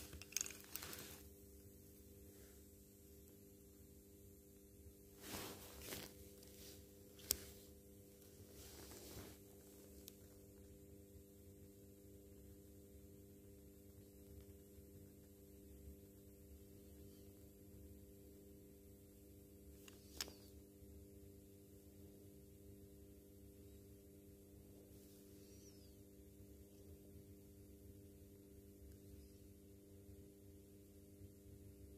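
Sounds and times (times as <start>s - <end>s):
low electrical hum: 0.0s - 31.9s.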